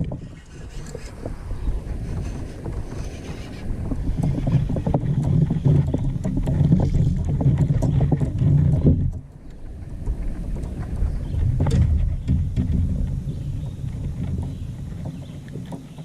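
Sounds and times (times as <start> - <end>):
boat engine low rumble: 0.0 - 16.0
wind on microphone: 0.0 - 16.0.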